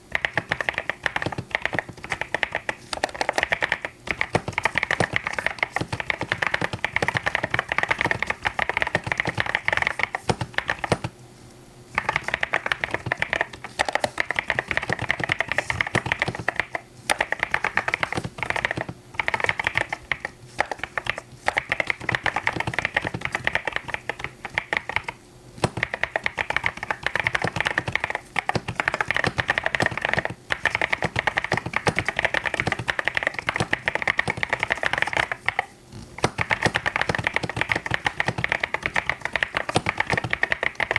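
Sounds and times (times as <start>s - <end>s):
mechanical keyboard typing: 0.0s - 11.2s, 12.0s - 40.9s.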